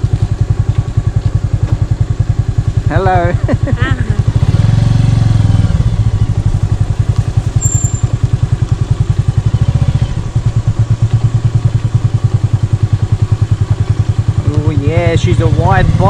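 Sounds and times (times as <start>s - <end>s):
motorcycle engine running slowly: 0.0s - 16.0s.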